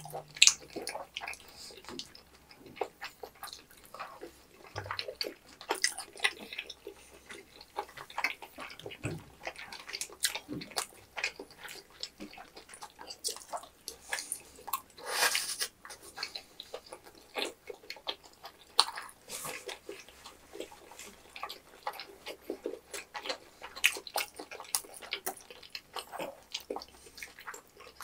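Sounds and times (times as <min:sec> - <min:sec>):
wet chewing and mouth clicks: 0:00.0 - 0:28.0.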